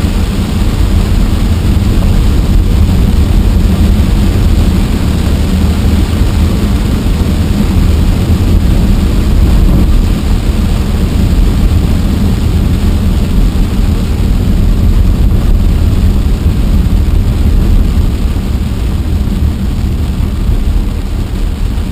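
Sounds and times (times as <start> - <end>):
car road and engine rumble: 0.0 - 21.9
rain hissing on car: 0.0 - 21.9.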